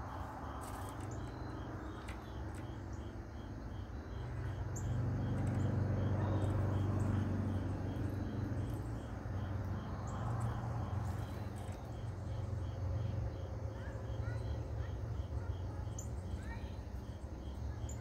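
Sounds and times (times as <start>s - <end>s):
insect chirping: 0.0s - 18.0s
steady low hum: 0.0s - 18.0s.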